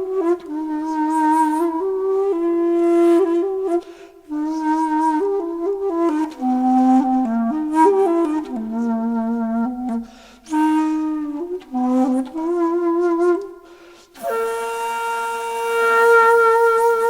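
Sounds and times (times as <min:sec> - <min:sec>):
solo wind instrument melody: 0:00.0 - 0:17.0.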